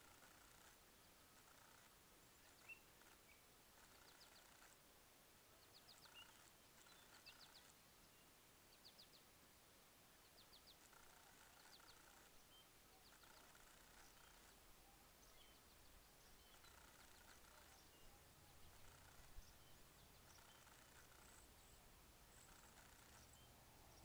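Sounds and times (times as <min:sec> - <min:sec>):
faint bird calls: 0:00.0 - 0:04.8, 0:05.5 - 0:09.2, 0:10.2 - 0:24.0.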